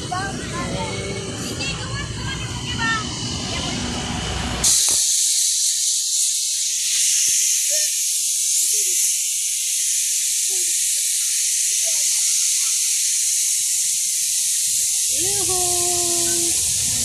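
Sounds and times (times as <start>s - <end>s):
loud steady hiss: 0.0s - 17.0s.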